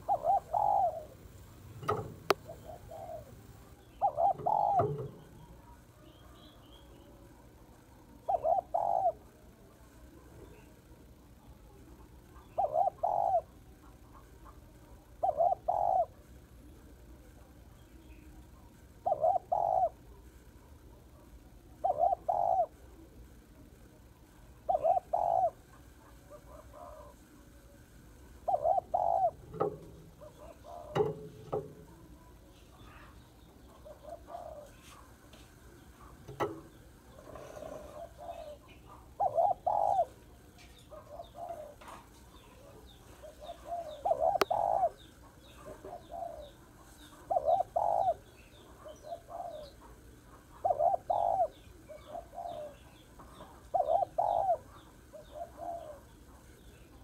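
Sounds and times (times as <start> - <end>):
dove cooing: 0.0 - 16.3, 17.8 - 20.3, 20.9 - 23.2, 24.5 - 57.0
small birds chirping: 0.0 - 57.0.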